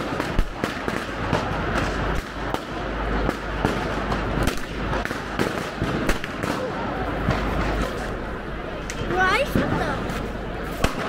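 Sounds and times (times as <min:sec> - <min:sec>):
firecrackers banging: 0:00.0 - 0:11.0
steady noisy background: 0:00.0 - 0:11.0.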